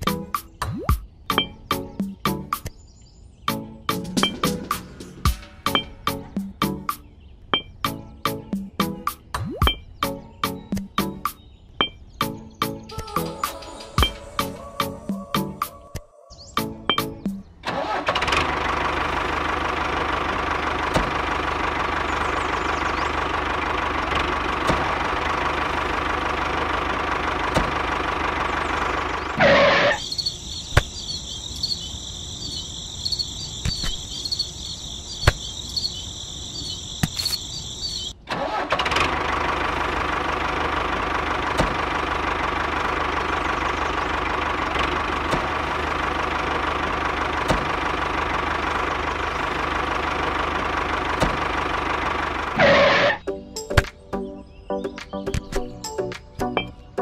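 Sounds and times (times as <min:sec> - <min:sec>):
tractor engine running: 0:03.6 - 0:15.7, 0:16.6 - 0:54.1.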